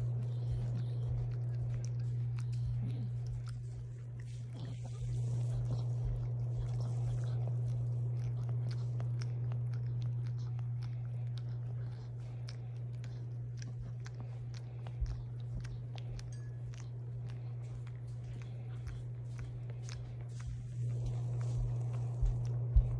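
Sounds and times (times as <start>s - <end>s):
dog licking and mouthing: 0.0s - 22.9s
low hum: 0.0s - 22.9s.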